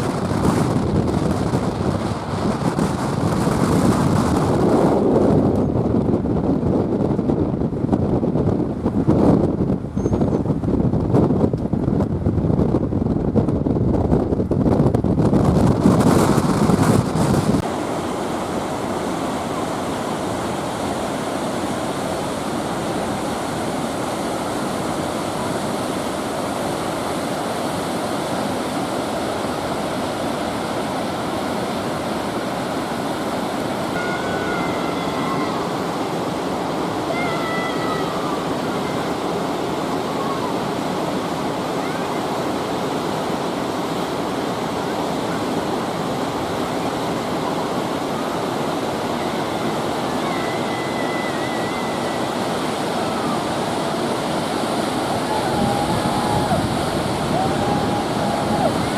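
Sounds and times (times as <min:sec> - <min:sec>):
river water rushing: 0:00.0 - 0:07.0, 0:15.8 - 0:58.9
wind buffeting microphone: 0:00.0 - 0:58.9.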